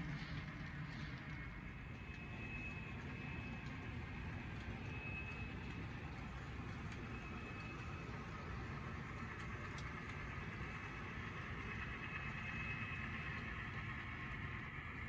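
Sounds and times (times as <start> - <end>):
model train running: 0.0 - 15.0.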